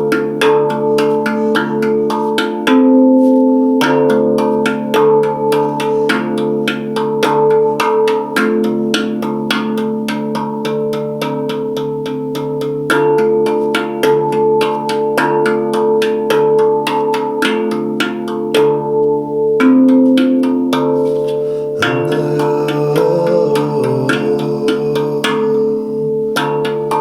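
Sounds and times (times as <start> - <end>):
handpan played with hands: 0.0 - 27.0.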